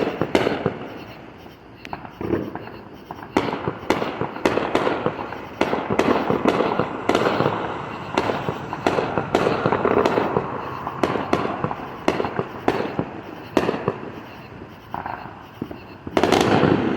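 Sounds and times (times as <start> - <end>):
fireworks bangs: 0.0 - 16.9.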